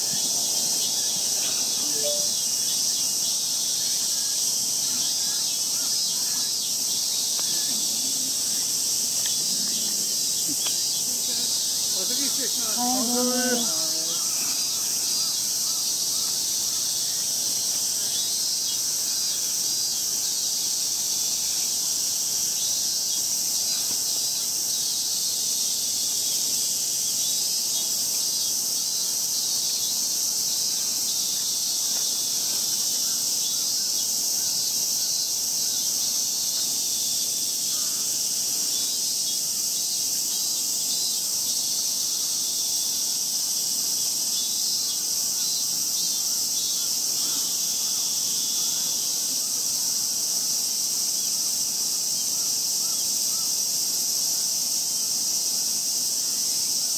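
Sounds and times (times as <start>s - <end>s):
cicadas droning: 0.0s - 56.9s.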